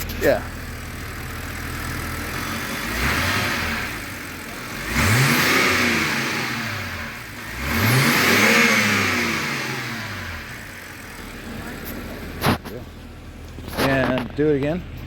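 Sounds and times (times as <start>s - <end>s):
car engine revving: 0.0s - 14.3s.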